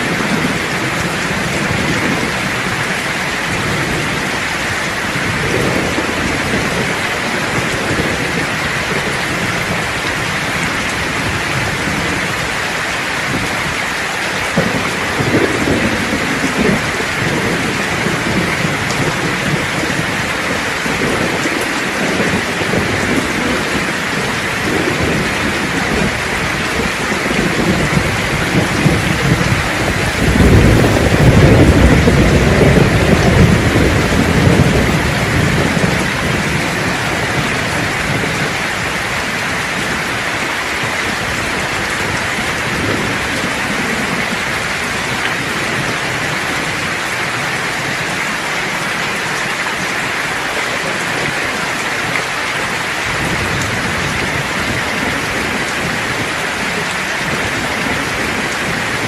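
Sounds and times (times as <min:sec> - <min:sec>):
heavy rain hissing: 0:00.0 - 0:59.0
low rolling thunder: 0:00.0 - 0:59.0.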